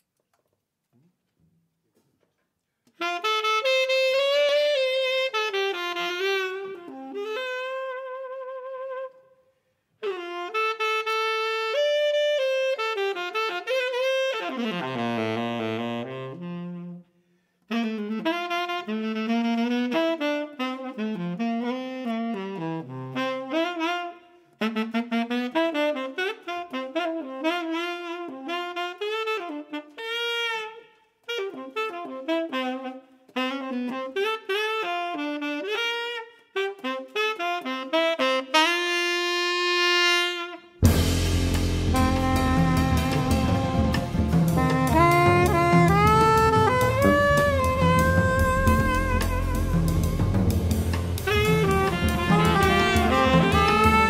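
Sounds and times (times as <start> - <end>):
tenor saxophone improvising jazz: 2.0 - 54.0.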